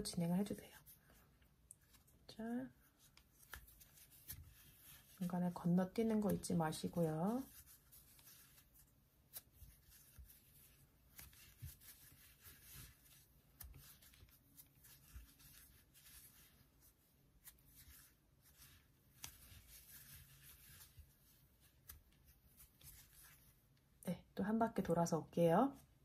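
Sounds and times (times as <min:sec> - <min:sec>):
soft rubbing of yarn: 0:00.0 - 0:24.0.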